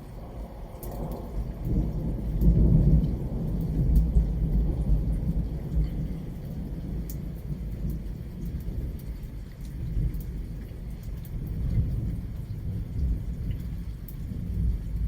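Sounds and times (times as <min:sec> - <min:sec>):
low rumbling thunder: 0:00.0 - 0:15.0
rain falling: 0:00.0 - 0:15.0
raindrops ticking close by: 0:00.0 - 0:15.0.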